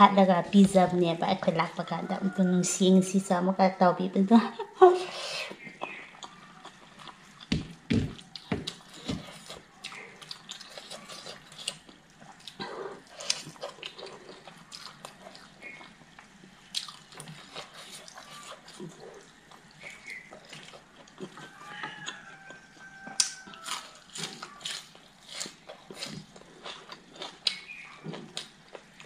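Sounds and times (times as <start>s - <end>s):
wet chewing and mouth clicks: 5.4s - 29.0s.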